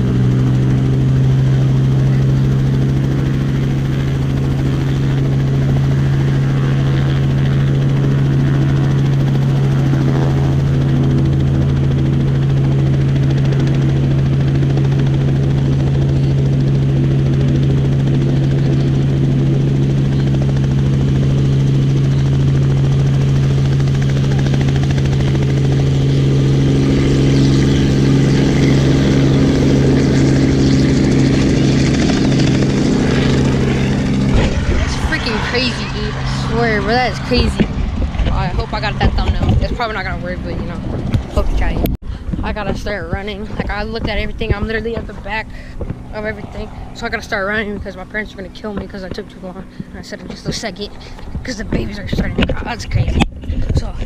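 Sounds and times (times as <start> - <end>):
helicopter engine and rotor hum: 0.0 - 54.0.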